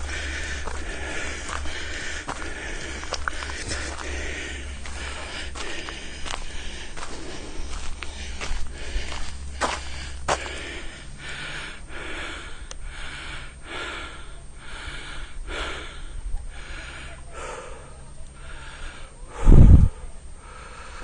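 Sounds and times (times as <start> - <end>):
man breathing hard: 0.0 - 21.0.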